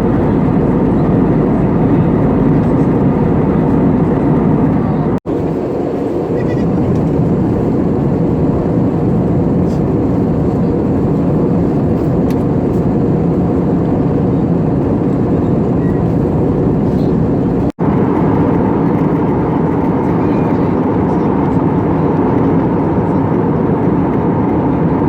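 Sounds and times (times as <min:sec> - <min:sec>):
airplane cabin drone: 0:00.0 - 0:25.0.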